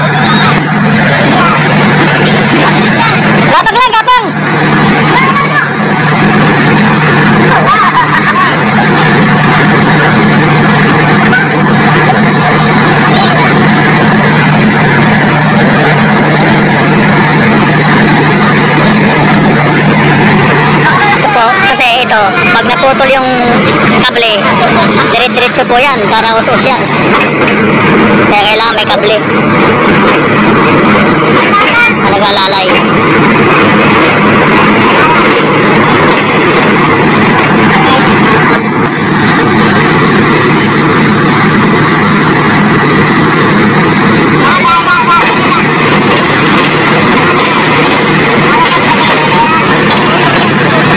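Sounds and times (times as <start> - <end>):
road roller diesel engine running: 0.0 - 50.9.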